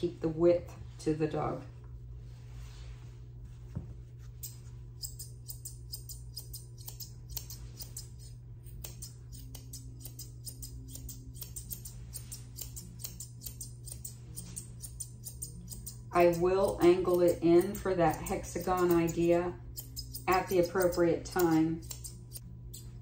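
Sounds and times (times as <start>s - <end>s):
grooming shears snipping: 4.3s - 23.0s.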